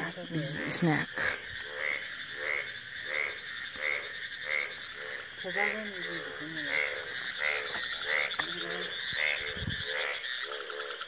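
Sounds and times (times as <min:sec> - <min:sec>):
frogs calling in chorus: 0:00.0 - 0:11.0.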